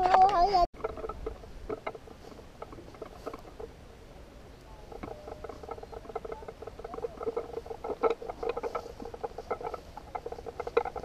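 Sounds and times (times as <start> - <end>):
camera stabilizer rattling: 0.0 - 3.8, 4.8 - 11.0.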